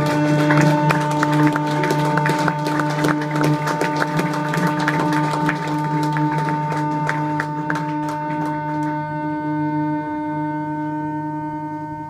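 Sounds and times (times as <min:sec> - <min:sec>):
held drone tones: 0:00.0 - 0:12.0.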